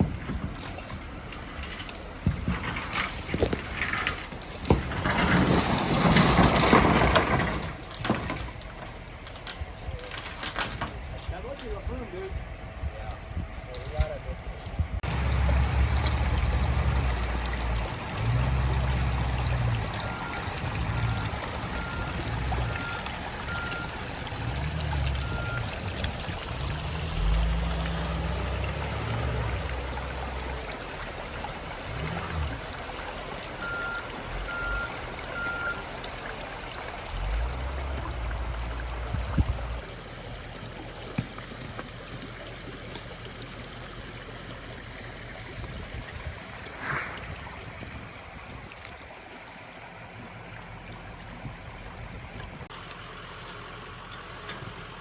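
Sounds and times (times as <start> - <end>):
creek water running: 0.0 - 55.0
low rumbles: 0.0 - 55.0.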